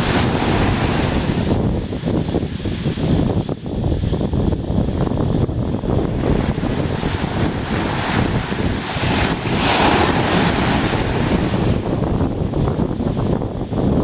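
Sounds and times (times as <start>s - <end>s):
small waves breaking on sand: 0.0s - 3.4s, 5.3s - 13.4s
wind rumble on microphone: 0.0s - 14.0s.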